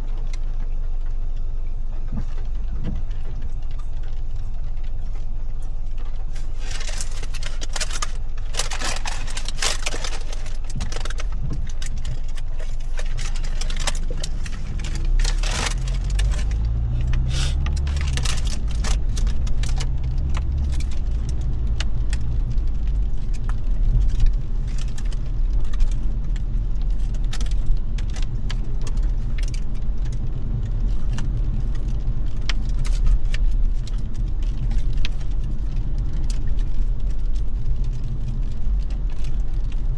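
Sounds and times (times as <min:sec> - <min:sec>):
car road and engine rumble: 0:00.0 - 0:39.9
sharp clicks and light rattling: 0:00.0 - 0:39.9.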